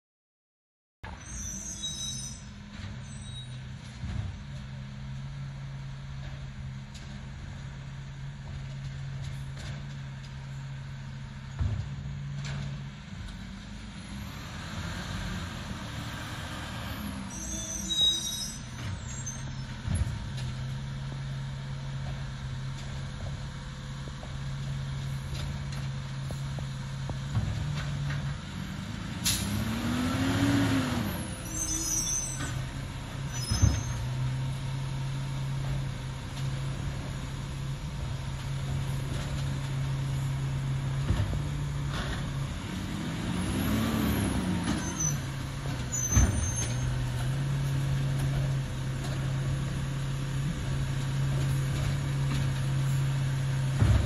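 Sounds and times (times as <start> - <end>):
truck engine running: 2.4 - 54.0.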